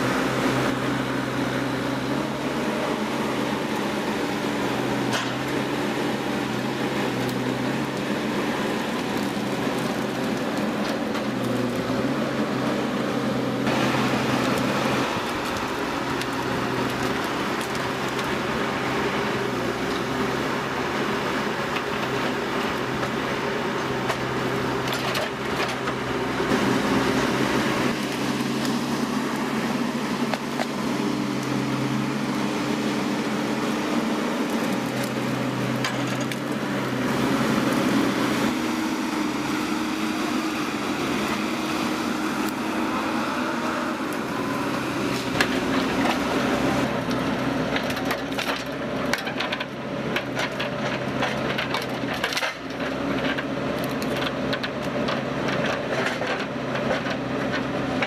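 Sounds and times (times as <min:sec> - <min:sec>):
machine engine hum: 0:00.0 - 0:58.0
wood cracking and splintering: 0:03.2 - 0:58.0.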